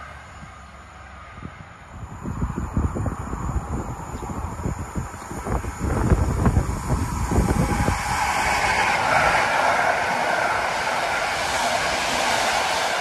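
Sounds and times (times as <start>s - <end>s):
train wheels rolling on rails: 0.0s - 13.0s
wind buffeting microphone: 1.3s - 13.0s.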